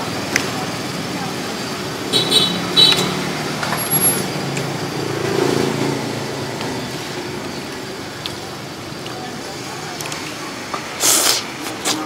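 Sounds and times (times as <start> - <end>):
roadside background noise: 0.0 - 12.0
vehicle engine hum: 0.0 - 12.0.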